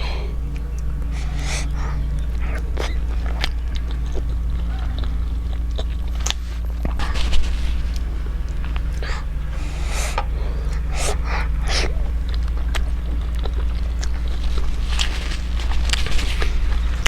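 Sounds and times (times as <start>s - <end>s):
person eating: 0.0s - 17.0s
sniffs and sharp breaths: 0.0s - 17.0s
steady low hum: 0.0s - 17.0s.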